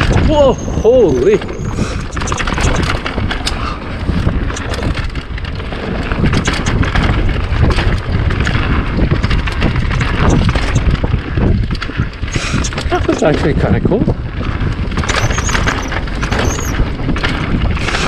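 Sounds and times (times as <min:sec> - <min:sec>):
bike rattling: 0:00.0 - 0:18.0
wind buffeting microphone: 0:00.0 - 0:18.0.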